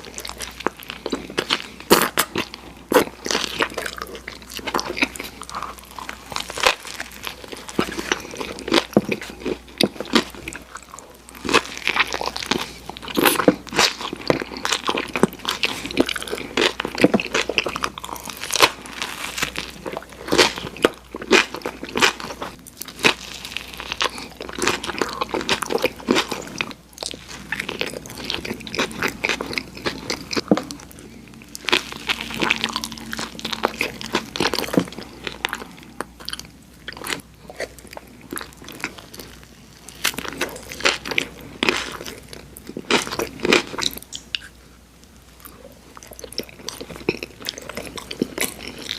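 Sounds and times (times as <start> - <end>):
wet chewing: 0.0 - 44.6
bread crunching and crackling: 0.0 - 48.9.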